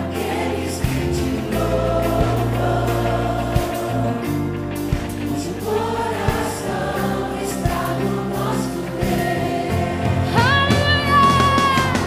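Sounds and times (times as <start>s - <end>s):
sustained low chords: 0.0s - 11.6s
choir singing: 0.0s - 12.0s.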